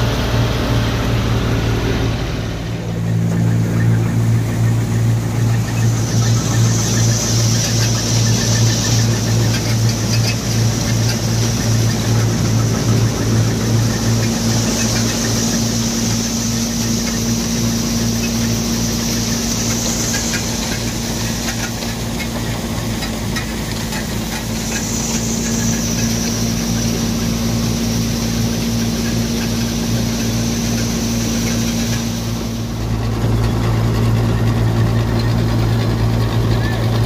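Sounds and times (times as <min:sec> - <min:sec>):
tractor engine drone: 0:00.0 - 0:37.0
grain pouring into metal trailer: 0:03.0 - 0:37.0.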